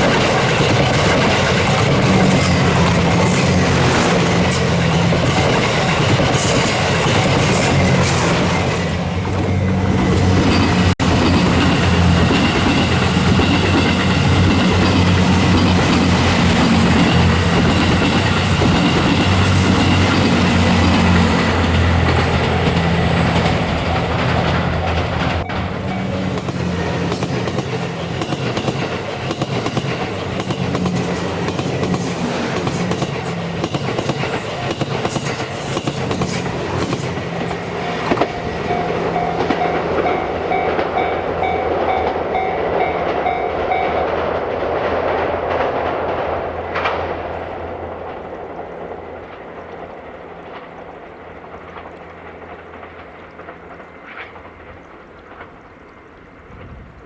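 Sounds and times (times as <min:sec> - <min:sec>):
train engines humming: 0:00.0 - 0:57.0
wheels clicking over rail joints: 0:00.0 - 0:57.0.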